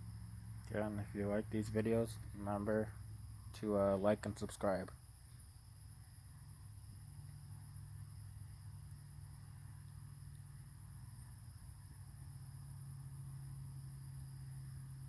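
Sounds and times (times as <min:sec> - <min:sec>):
insects chirring: 0:00.0 - 0:15.0
low steady hum: 0:00.0 - 0:15.0.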